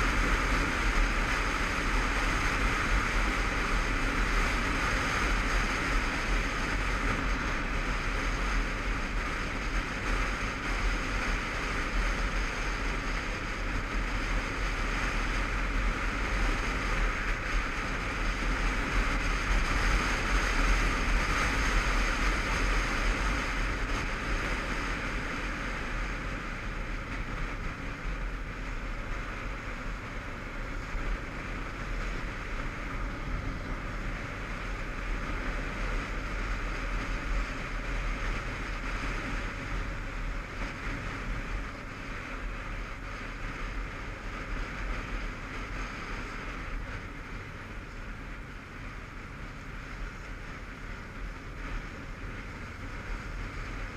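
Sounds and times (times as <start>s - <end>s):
motorcycle engine: 0.0s - 53.9s
wind rushing over microphone: 0.0s - 53.9s.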